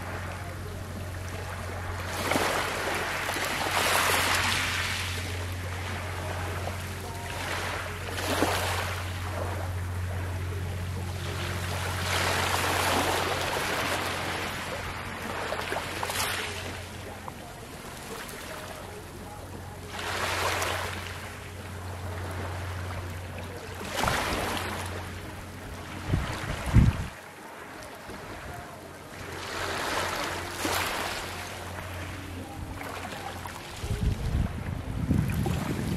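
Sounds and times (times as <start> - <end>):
low hum: 0.0 - 35.9
small waves lapping on shore: 0.0 - 35.9.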